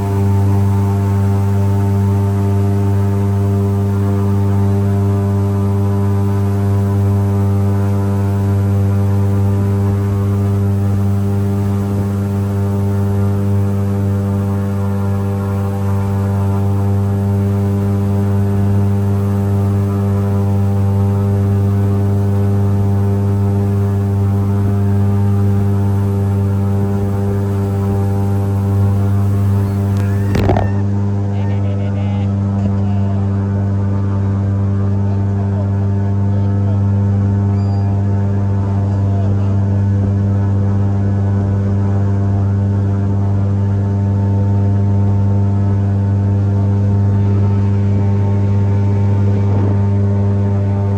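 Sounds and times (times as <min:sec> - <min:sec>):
airboat engine and propeller: 0:00.0 - 0:50.9.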